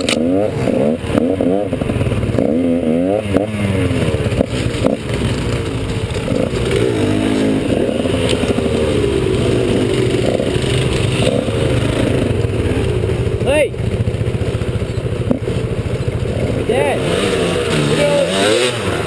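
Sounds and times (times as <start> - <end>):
dirt bike engine revving: 0.0 - 19.0
other dirt bikes running: 0.0 - 19.0.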